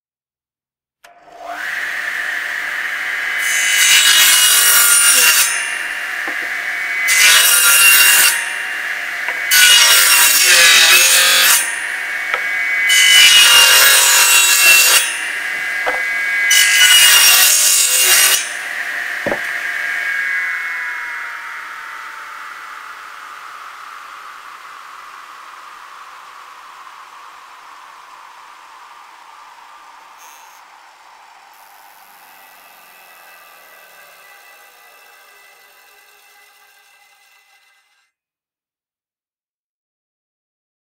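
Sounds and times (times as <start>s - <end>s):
table saw blade whining: 1.0s - 38.1s
saw cutting wooden boards: 1.1s - 38.1s.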